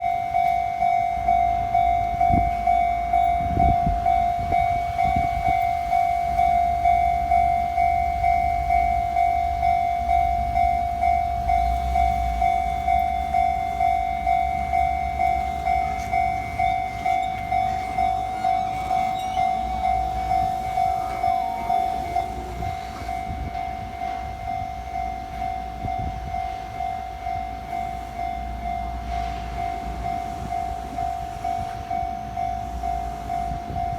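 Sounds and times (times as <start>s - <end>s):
level crossing warning bell ringing: 0.0s - 33.9s
rumble of train wheels on rails: 0.0s - 33.9s.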